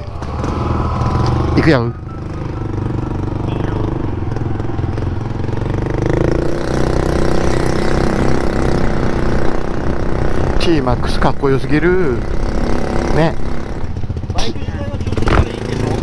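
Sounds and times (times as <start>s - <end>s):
scooter engine accelerating: 0.0s - 16.0s.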